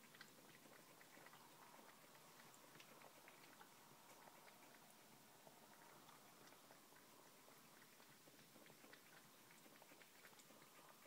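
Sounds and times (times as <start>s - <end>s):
cat lapping milk: 0.0s - 11.0s.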